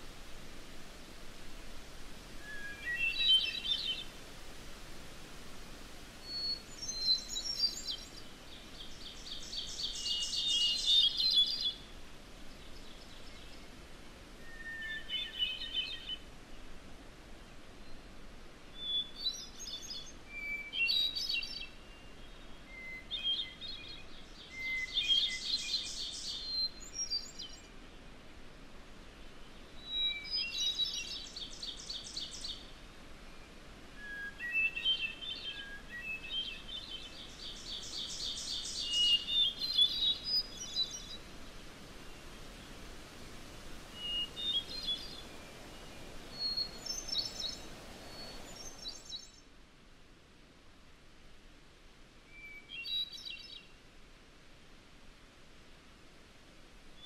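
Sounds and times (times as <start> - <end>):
faint steady hiss: 0.0 - 57.0
songbirds singing: 1.8 - 16.7, 17.7 - 49.5, 52.3 - 53.8.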